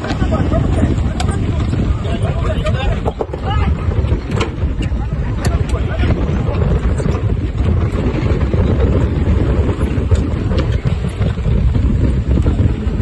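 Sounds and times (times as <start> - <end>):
water rushing along hull: 0.0 - 13.0
wind rumble on microphone: 0.0 - 13.0.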